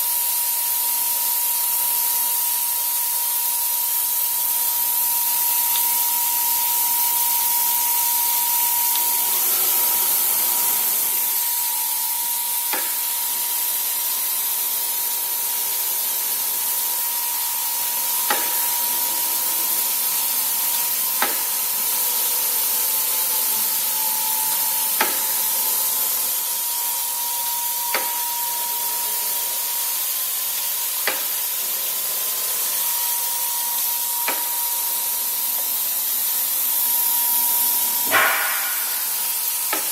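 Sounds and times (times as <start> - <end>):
router hiss and whine: 0.0 - 39.9.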